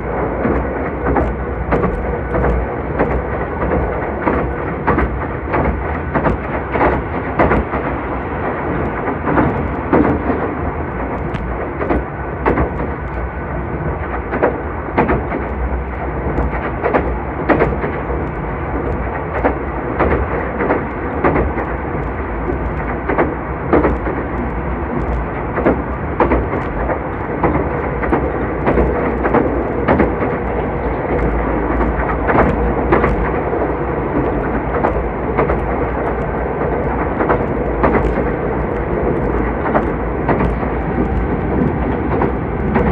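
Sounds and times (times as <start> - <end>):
electric train rumbling: 0.0 - 42.9
wheels clicking on rails: 0.0 - 42.9.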